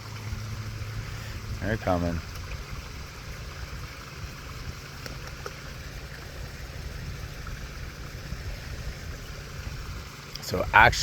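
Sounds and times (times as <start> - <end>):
pond waterfall splashing: 0.0 - 11.0.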